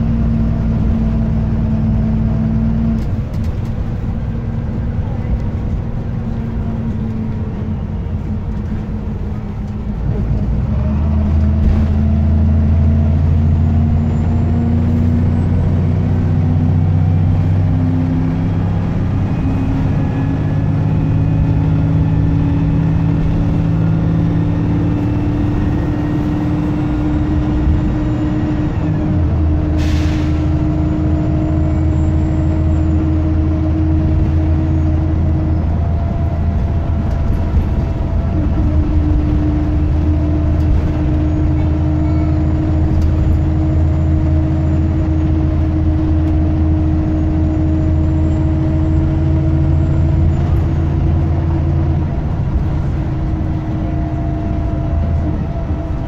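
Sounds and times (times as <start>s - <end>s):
bus diesel engine accelerating: 0.0s - 56.0s.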